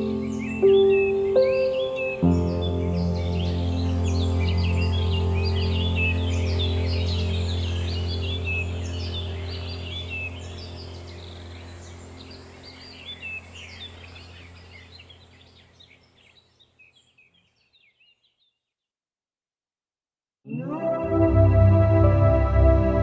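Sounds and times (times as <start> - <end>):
ambient music drone: 0.0 - 16.0, 20.5 - 23.0
small birds chirping: 0.0 - 18.8.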